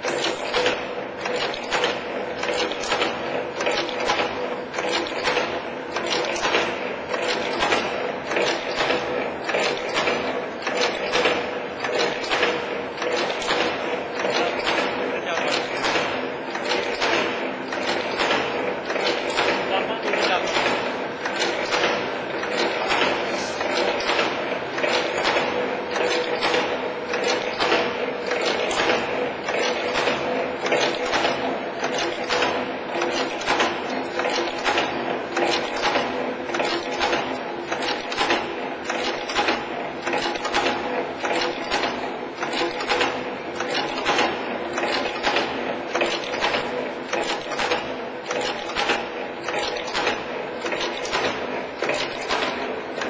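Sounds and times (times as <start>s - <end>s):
machine tools clacking rhythmically: 0.0s - 53.0s.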